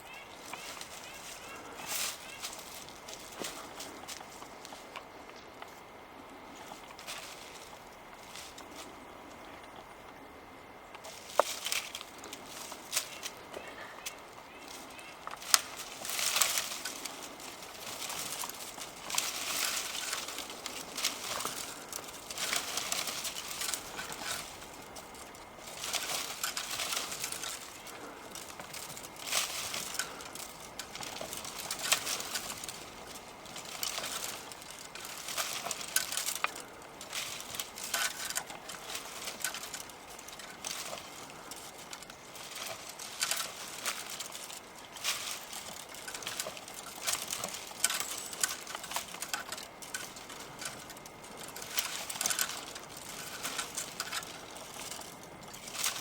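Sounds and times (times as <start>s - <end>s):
footsteps on a trail: 0.0s - 56.0s.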